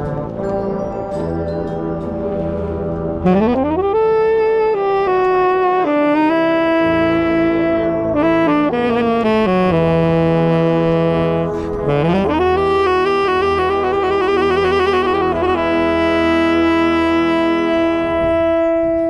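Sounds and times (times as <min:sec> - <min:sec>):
tenor saxophone solo: 0:00.0 - 0:19.0
marching band brass: 0:02.1 - 0:19.0.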